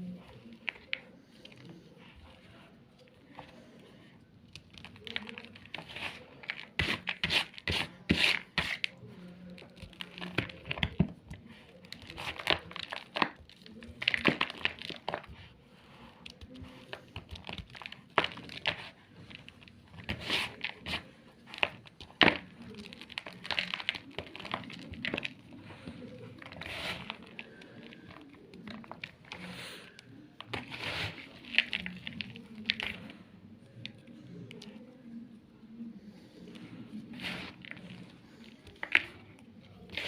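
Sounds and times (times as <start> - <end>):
chalk crunching and crackling: 0.0 - 34.9, 36.0 - 40.0.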